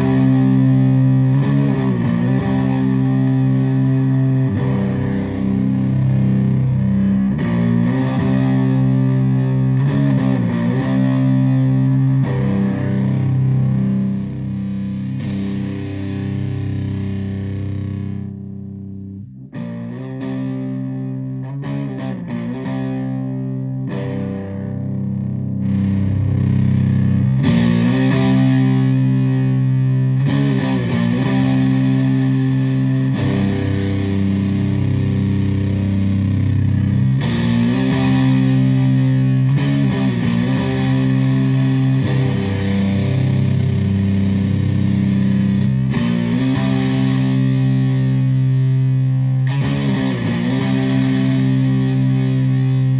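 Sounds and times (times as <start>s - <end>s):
heavy fuzzed electric guitar chords: 0.0s - 52.9s.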